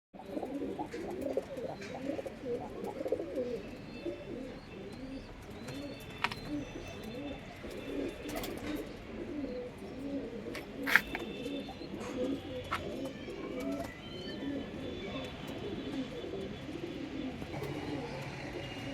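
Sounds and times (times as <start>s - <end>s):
pigeons cooing: 0.2s - 18.9s.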